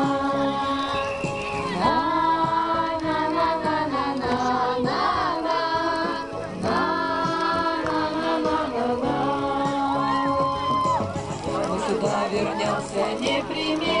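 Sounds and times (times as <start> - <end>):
voices singing together: 0.0 - 14.0.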